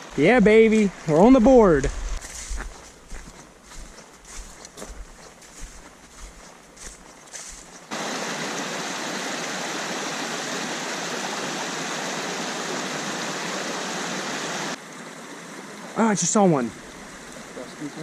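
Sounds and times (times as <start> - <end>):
faint flowing water: 0.0 - 18.0
stream water rushing: 2.7 - 18.0.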